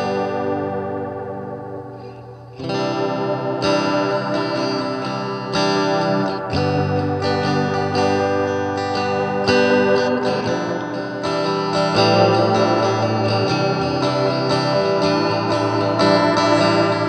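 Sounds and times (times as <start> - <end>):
electric guitar with delay repeats: 0.0 - 17.0.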